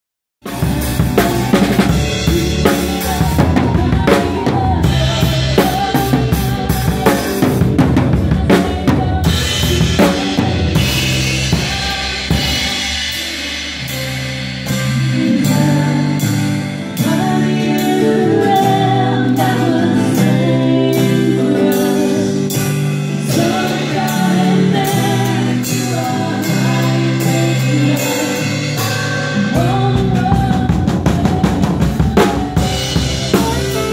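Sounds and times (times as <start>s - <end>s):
drum kit: 0.4s - 33.9s
live band playing: 0.4s - 33.9s.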